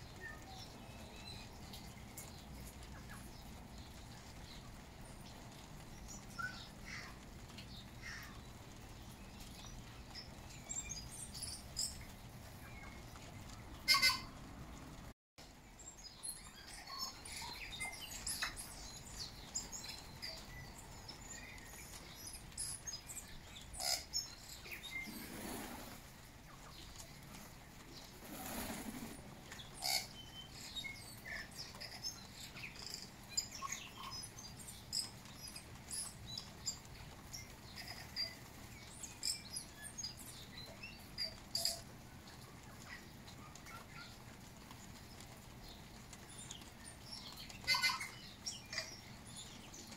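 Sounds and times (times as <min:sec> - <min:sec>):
bird calling clicks and chirps: 0:00.0 - 0:14.4, 0:16.1 - 0:49.9.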